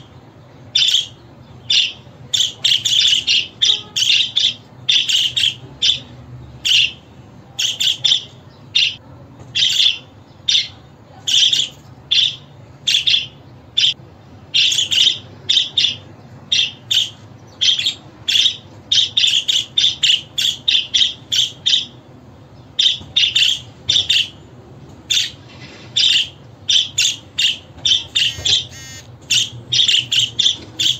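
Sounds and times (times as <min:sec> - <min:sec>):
budgerigar chirping and squawking: 0:00.8 - 0:07.0, 0:09.6 - 0:14.0, 0:14.6 - 0:22.0, 0:22.8 - 0:24.4, 0:25.1 - 0:30.9.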